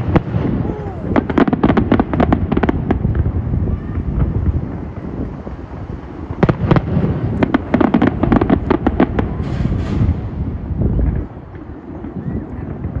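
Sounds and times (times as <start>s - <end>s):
fireworks booming: 0.0s - 13.0s
fireworks crackling and popping: 0.0s - 13.0s.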